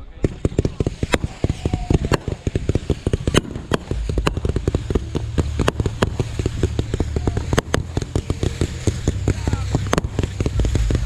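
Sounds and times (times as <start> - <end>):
fireworks bangs: 0.0 - 11.0
fireworks crackling pops: 0.0 - 11.0
low steady hum: 1.1 - 11.0.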